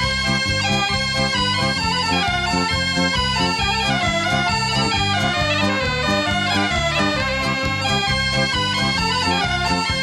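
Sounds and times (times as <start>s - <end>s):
bagpipe folk tune: 0.0s - 10.0s.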